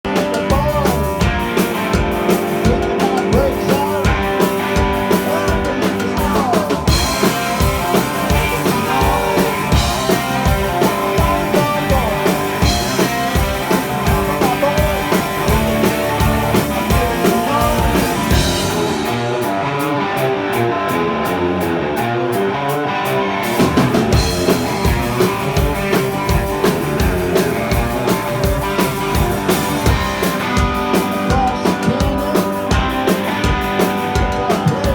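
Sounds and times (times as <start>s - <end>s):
drum kit beat: 0.0s - 20.6s, 23.4s - 34.9s
rock band playing live: 0.0s - 34.9s.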